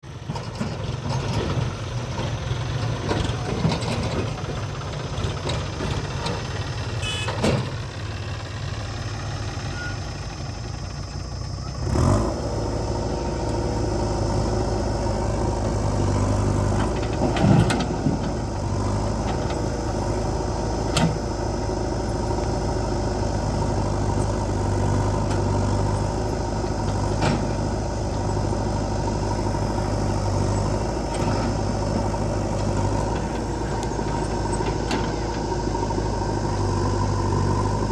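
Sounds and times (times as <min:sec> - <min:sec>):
heavy diesel machinery running: 0:00.0 - 0:37.9.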